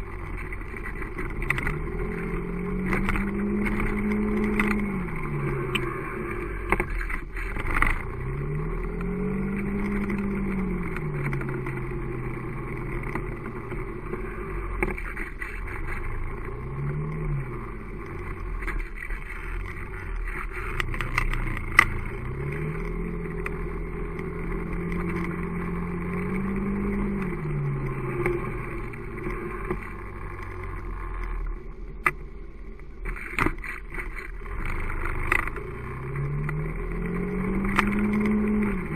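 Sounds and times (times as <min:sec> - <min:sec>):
clicks and knocks from road: 0:00.0 - 0:38.9
motorcycle engine revving: 0:00.0 - 0:38.9.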